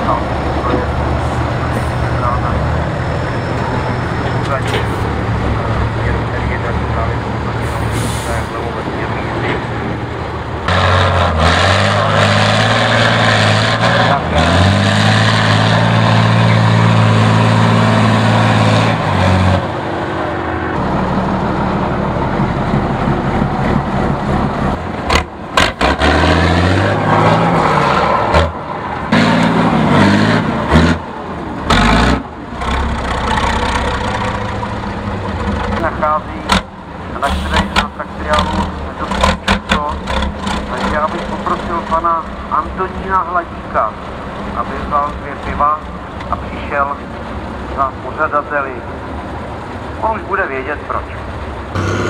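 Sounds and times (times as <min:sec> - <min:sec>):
truck diesel engine under load: 0:00.0 - 0:52.0.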